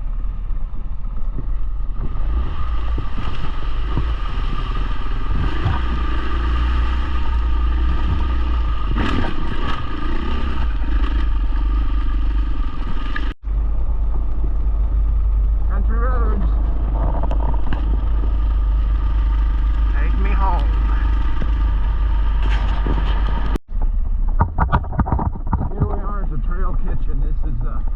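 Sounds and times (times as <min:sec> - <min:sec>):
motorcycle engine running: 0:00.0 - 0:27.9
wind buffeting microphone: 0:00.0 - 0:27.9.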